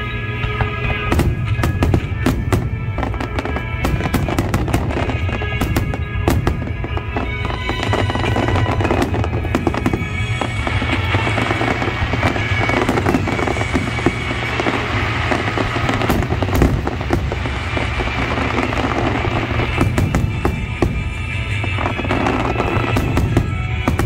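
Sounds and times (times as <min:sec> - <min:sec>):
fireworks bursting and crackling: 0:00.0 - 0:24.0
music with held tones: 0:00.0 - 0:24.0
firework bang: 0:00.4 - 0:24.0.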